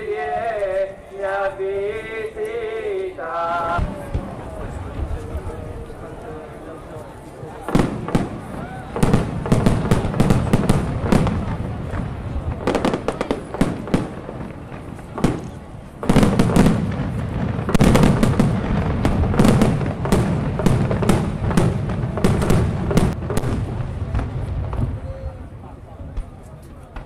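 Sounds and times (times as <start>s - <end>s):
fireworks bangs and crackling: 3.5s - 27.0s.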